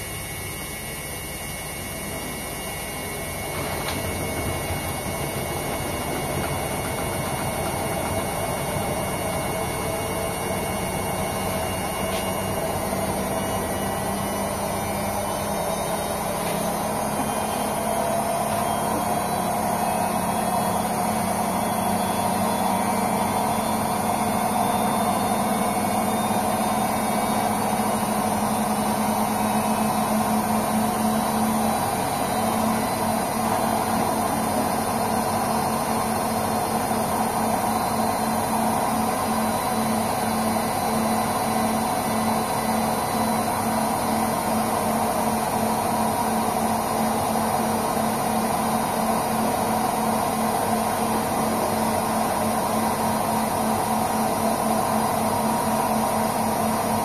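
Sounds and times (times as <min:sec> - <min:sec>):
washing machine running: 0:00.0 - 0:57.0.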